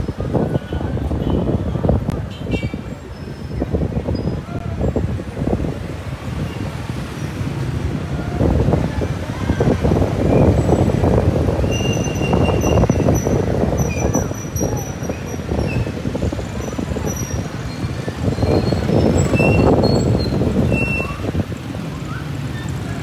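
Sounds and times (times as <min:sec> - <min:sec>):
motor traffic: 0:00.0 - 0:23.0.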